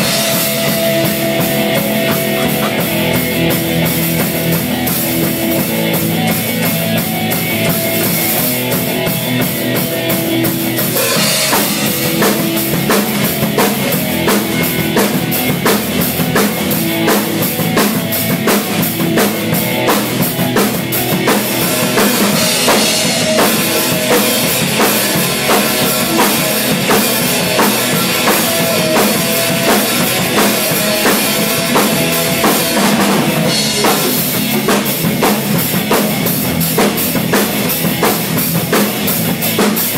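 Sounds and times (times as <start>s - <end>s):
rock drumming on drum kit: 0.0s - 39.9s
rock song with guitar: 0.0s - 39.9s.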